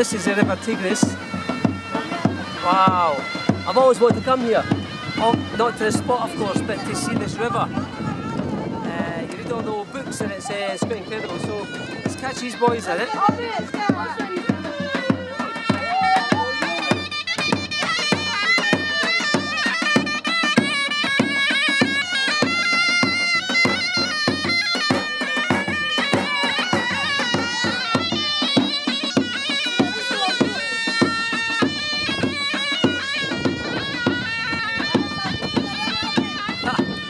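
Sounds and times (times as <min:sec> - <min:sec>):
bass drum beat: 0:00.0 - 0:37.0
reedy pipe melody: 0:00.0 - 0:37.0.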